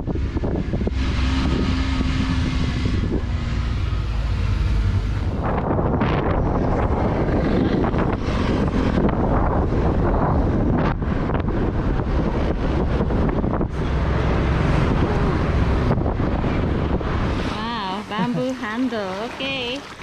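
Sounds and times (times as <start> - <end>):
low rumble of moving vehicle: 0.0 - 20.0
wind buffeting microphone: 0.0 - 20.0.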